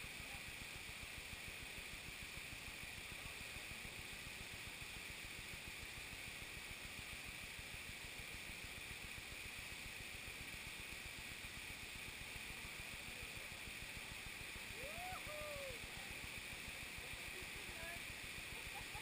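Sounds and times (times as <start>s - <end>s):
stream and waterfall rushing: 1.6s - 18.9s.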